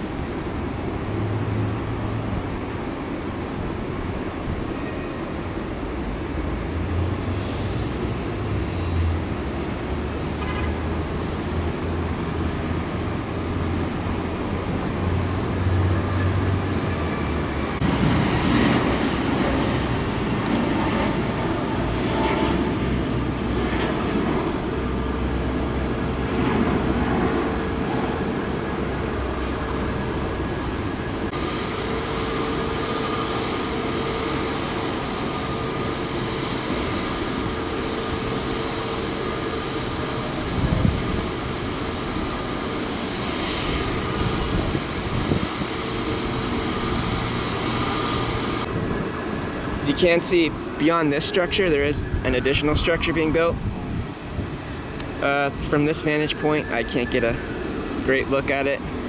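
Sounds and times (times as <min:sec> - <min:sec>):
vehicle traffic passing: 0:05.8 - 0:59.0.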